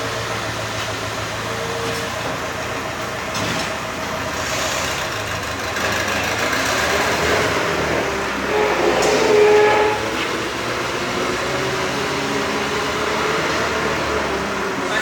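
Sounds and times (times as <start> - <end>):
loud background noise: 0.0 - 15.0.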